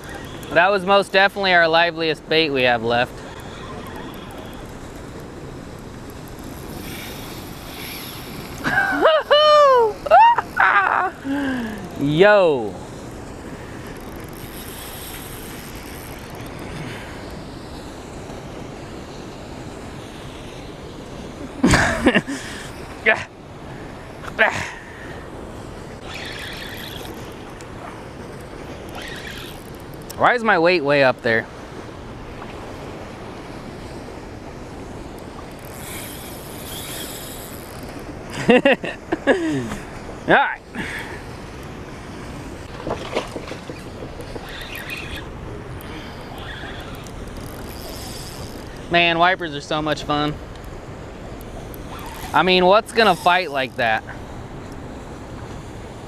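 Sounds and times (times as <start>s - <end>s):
turbulent water rushing: 0.0s - 35.8s, 37.6s - 56.0s.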